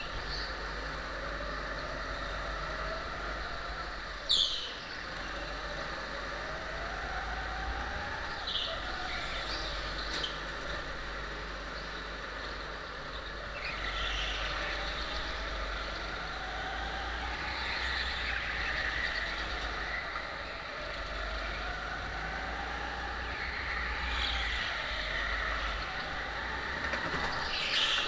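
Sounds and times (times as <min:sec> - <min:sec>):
go-kart motor accelerating: 0:00.0 - 0:28.0.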